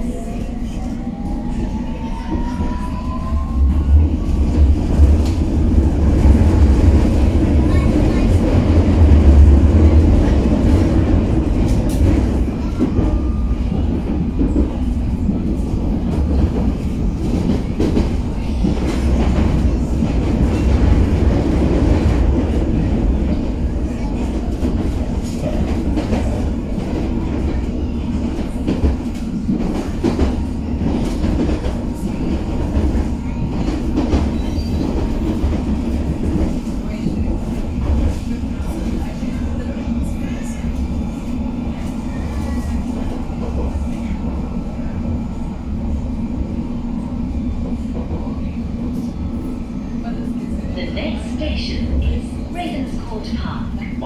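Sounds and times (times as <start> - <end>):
train wheels low rumble: 0.0 - 54.0.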